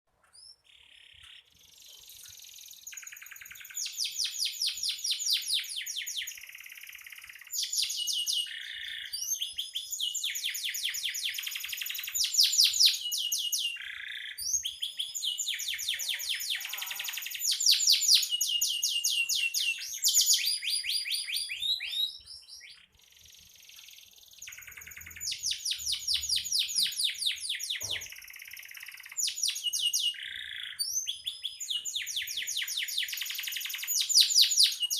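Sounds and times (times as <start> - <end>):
canary singing trills: 0.3 - 34.9.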